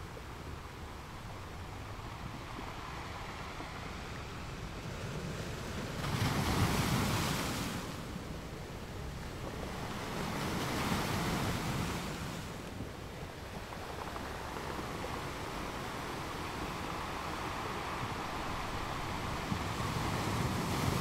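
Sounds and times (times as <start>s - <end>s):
ocean surf breaking on beach: 0.2s - 21.0s.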